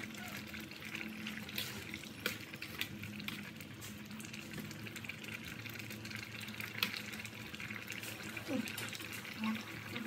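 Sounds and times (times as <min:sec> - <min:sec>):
soup simmering: 0:00.0 - 0:10.0.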